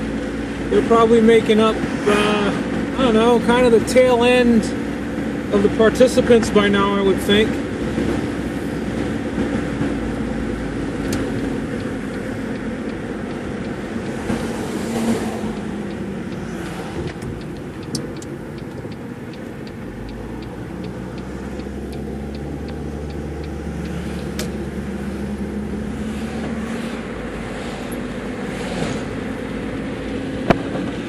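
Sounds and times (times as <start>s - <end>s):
car engine and tyre noise: 0.0s - 31.0s
turn signal ticking: 0.0s - 31.0s.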